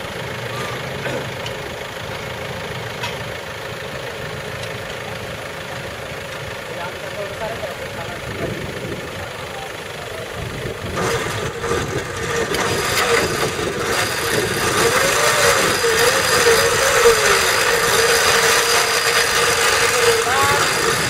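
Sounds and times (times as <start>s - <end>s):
pickup engine idling: 0.0s - 21.0s.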